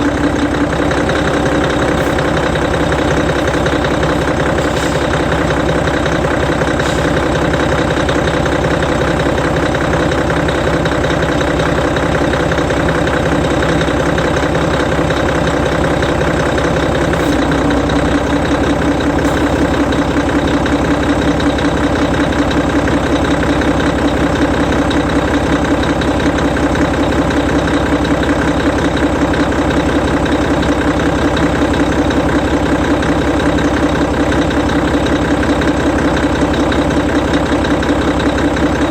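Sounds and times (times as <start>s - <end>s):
diesel coach engine idling: 0.0s - 38.9s.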